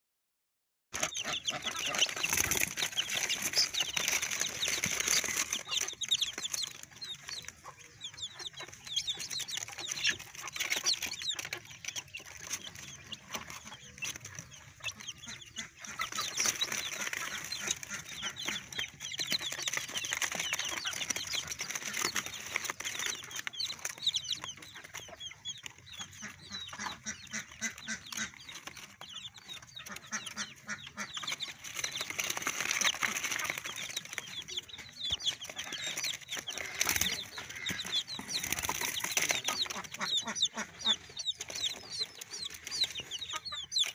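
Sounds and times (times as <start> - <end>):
chicks peeping: 0.9 - 43.9.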